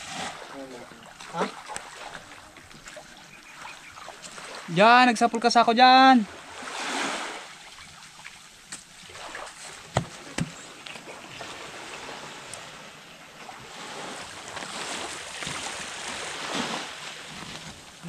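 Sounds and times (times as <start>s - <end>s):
small waves washing on shore: 0.0s - 18.0s
wind: 0.0s - 18.0s.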